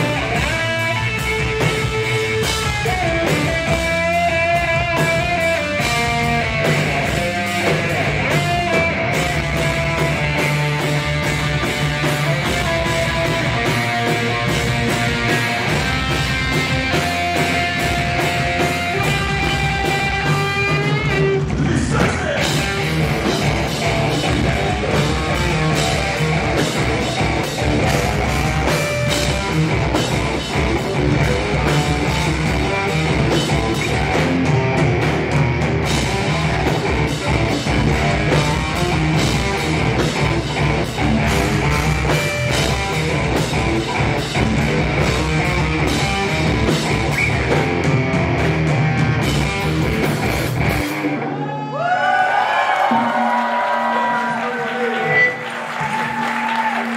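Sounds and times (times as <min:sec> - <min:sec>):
bass guitar: 0:00.0 - 0:56.9
drum kit: 0:00.0 - 0:56.9
electric guitar: 0:00.0 - 0:56.9.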